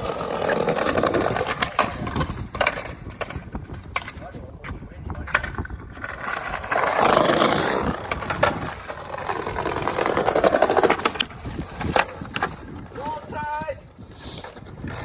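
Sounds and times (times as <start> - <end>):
skateboard clacks: 0.0 - 15.0
skateboard wheels rolling on rough ground: 0.0 - 15.0.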